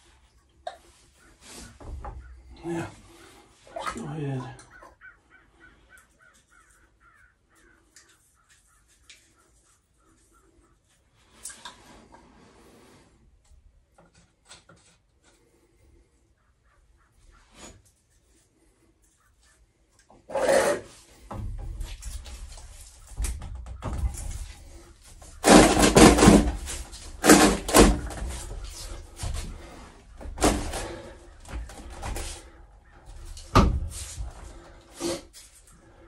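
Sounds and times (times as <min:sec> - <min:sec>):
rubbing and scraping pipe: 0:00.0 - 0:04.0, 0:05.6 - 0:36.0.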